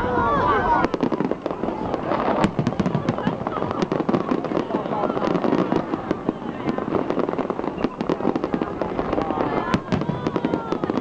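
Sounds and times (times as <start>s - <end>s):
fireworks bangs and crackles: 0.0s - 11.0s
loud firework bang: 0.8s - 11.0s.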